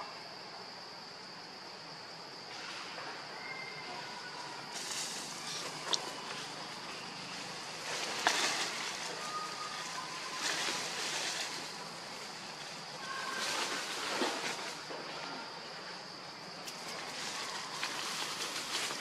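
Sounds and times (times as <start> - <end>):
leaves and branches rustling: 2.6 - 19.0.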